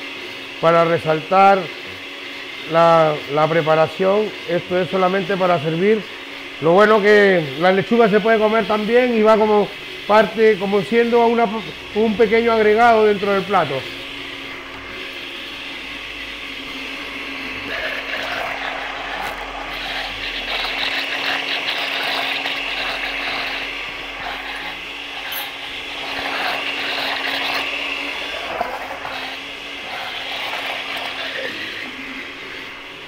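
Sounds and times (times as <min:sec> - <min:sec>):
blender running: 0:00.0 - 0:33.0.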